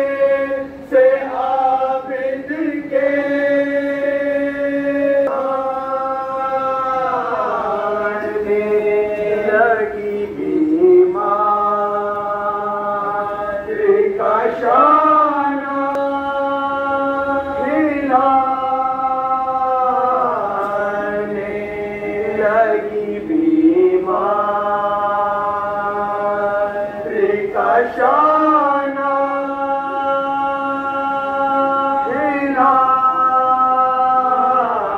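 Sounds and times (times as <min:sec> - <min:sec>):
men chanting a lament: 0:00.0 - 0:34.9.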